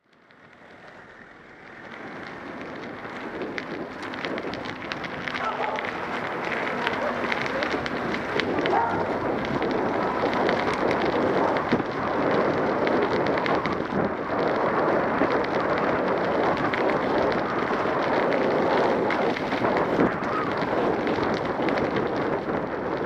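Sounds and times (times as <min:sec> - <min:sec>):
wind rumble on microphone: 0:00.0 - 0:23.0
bike rattles and knocks: 0:00.1 - 0:23.0.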